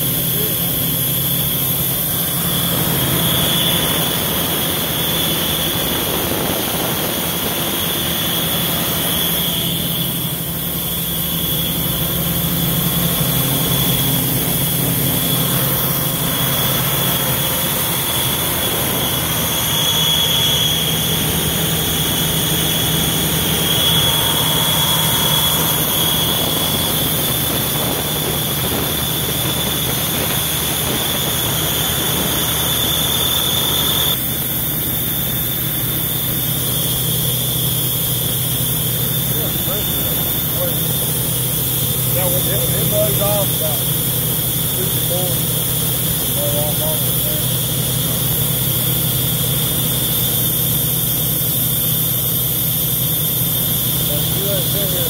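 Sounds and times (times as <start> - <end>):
air compressor engine hum: 0.0 - 55.0
high-pitched whine: 0.0 - 55.0.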